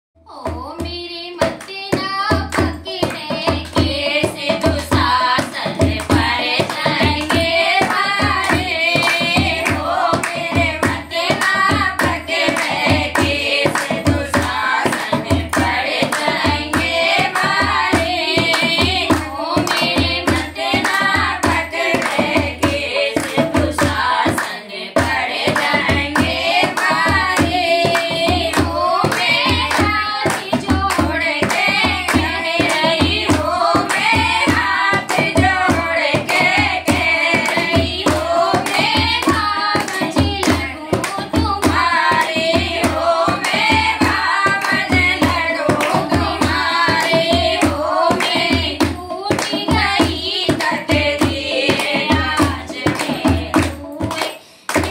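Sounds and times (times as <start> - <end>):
hand drum beat: 0.3 - 54.9
women singing together: 0.3 - 54.9
rhythmic hand clapping: 0.4 - 54.9.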